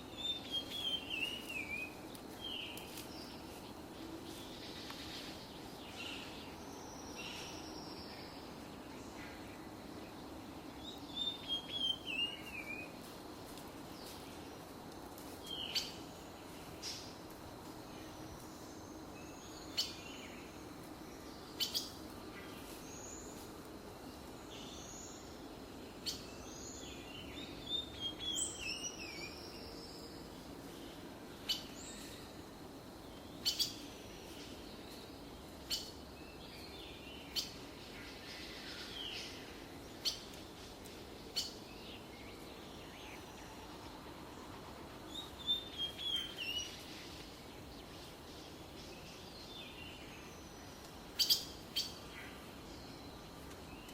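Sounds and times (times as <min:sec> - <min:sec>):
low background noise: 0:00.0 - 0:53.9
small birds chirping: 0:00.0 - 0:53.9.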